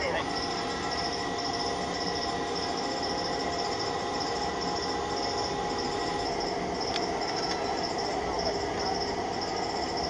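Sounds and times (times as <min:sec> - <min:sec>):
machine hum with whining tones: 0:00.0 - 0:10.0.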